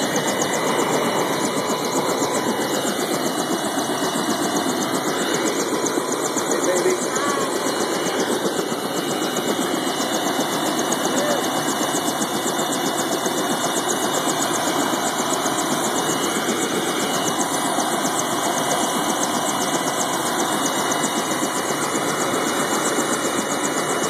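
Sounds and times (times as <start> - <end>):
helicopter turbine engine running: 0.0 - 24.0.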